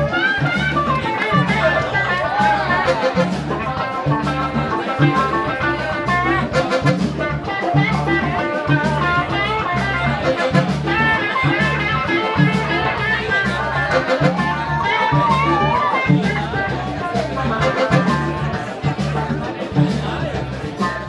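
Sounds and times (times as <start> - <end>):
congas: 0.0 - 21.0
drum kit: 0.0 - 21.0
electric guitar: 0.0 - 21.0
repeating low bass: 0.0 - 21.0.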